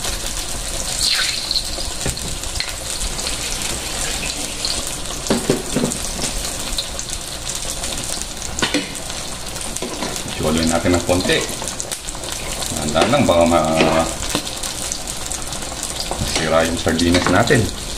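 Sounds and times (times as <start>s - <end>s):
chicken frying in hot oil: 0.0s - 17.9s
oil crackling: 0.0s - 17.9s.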